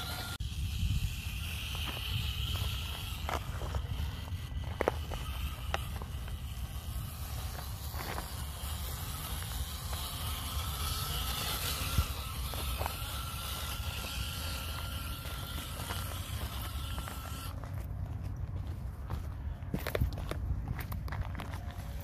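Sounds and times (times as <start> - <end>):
rc truck motor whining: 0.0 - 17.9.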